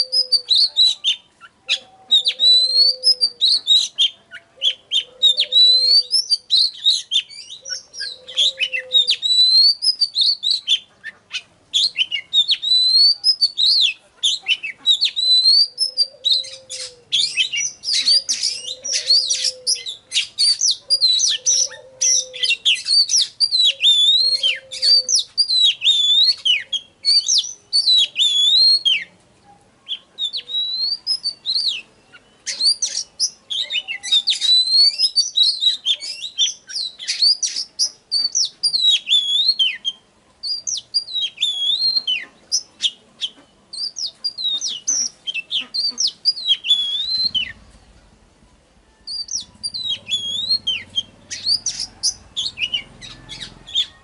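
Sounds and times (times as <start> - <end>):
bird singing whistled phrases: 0.0 - 29.1, 29.9 - 43.0, 43.7 - 47.6, 49.0 - 54.0.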